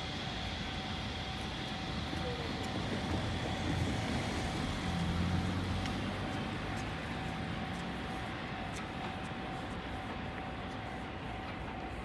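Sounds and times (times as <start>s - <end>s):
distant freight train rumble: 0.0s - 12.0s
faint steady whine: 0.0s - 12.0s.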